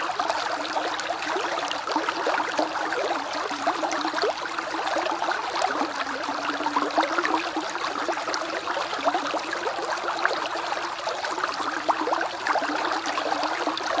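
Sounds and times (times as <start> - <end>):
creek bubbling: 0.0 - 14.0.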